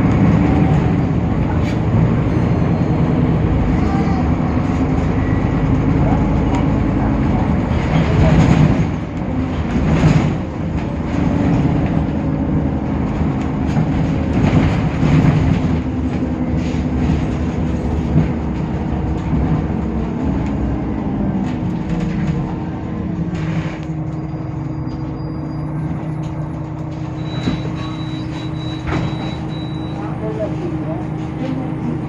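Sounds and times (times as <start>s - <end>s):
bus diesel engine hum: 0.0s - 32.0s.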